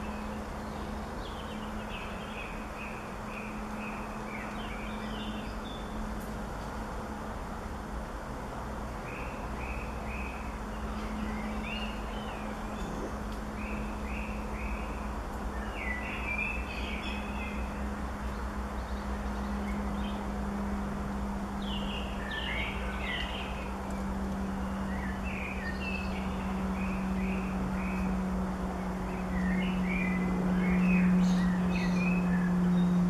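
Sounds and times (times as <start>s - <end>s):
small birds chirping: 0.0s - 6.8s, 9.0s - 20.5s, 21.5s - 33.0s
steady low hum: 0.0s - 33.0s.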